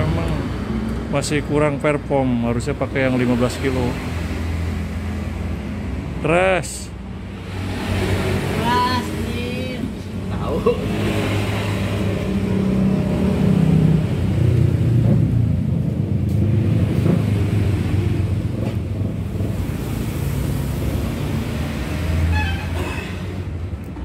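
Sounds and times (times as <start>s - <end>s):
road traffic engine rumble: 0.0s - 24.0s.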